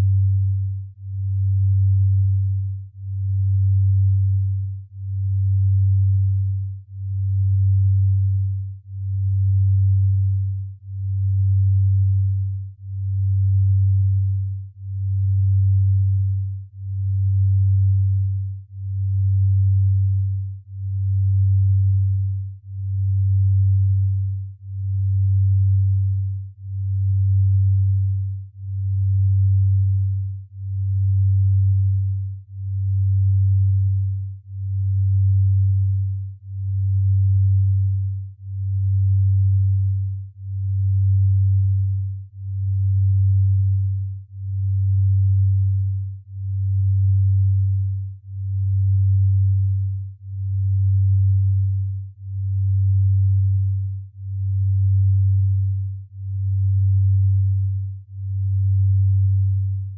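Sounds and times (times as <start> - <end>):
low pulsing pure tone: 0.0 - 59.9.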